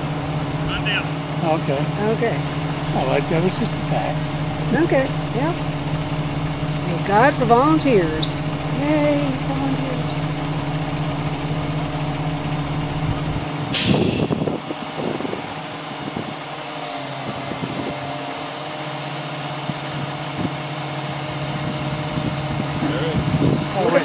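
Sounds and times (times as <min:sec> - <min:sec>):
crane engine running: 0:00.0 - 0:24.0.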